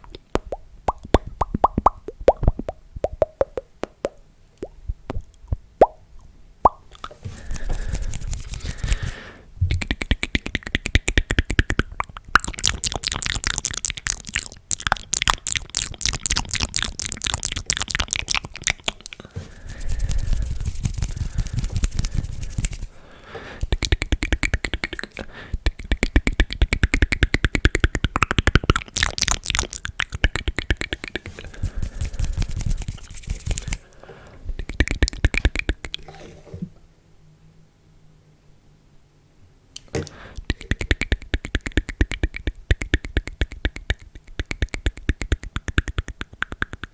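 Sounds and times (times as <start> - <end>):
wet tongue and lip clicks: 0.0 - 6.0, 6.7 - 22.9, 23.6 - 33.9, 34.5 - 36.1, 39.8 - 46.9.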